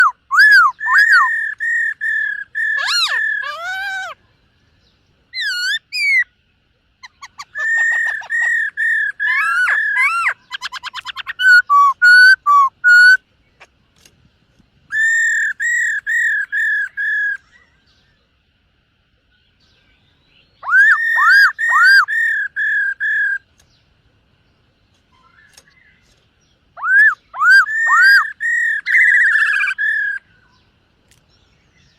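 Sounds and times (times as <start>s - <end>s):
bird singing whistled notes: 0.0s - 6.4s, 7.0s - 13.2s, 14.9s - 18.4s, 19.3s - 23.8s, 25.1s - 31.9s.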